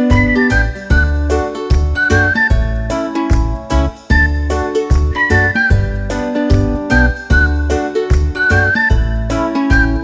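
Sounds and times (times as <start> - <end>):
upbeat whistled tune with bass: 0.0 - 10.0.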